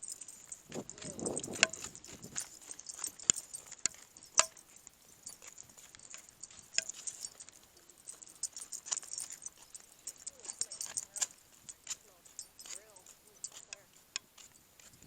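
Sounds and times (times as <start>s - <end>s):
footsteps on pavement: 0.1s - 15.0s.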